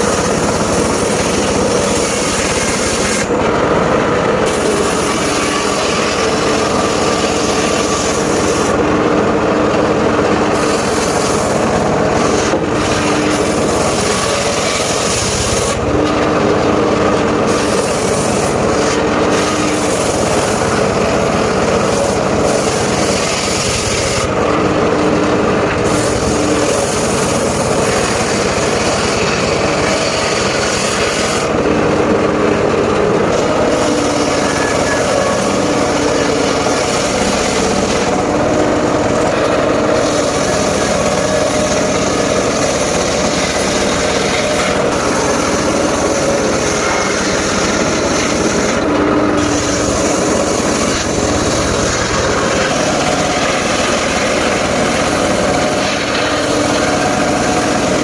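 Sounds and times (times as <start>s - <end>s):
sawmill cutting timber: 0.0s - 58.0s.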